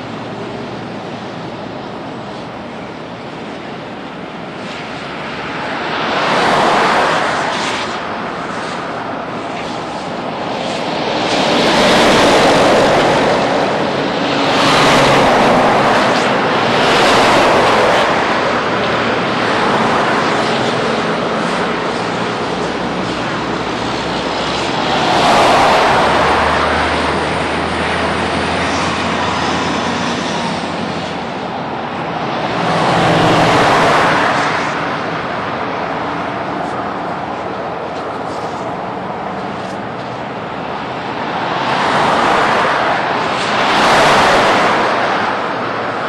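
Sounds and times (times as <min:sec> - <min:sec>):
highway traffic rushing: 0:00.0 - 0:46.0.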